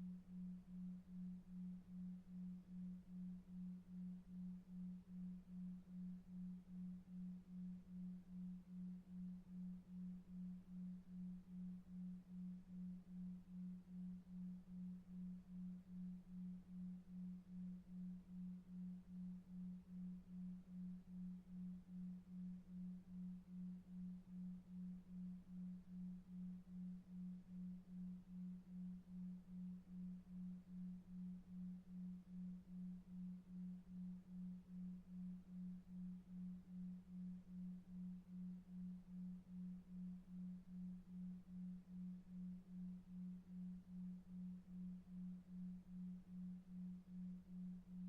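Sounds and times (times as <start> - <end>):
low pulsing sine tone: 0.0 - 48.0.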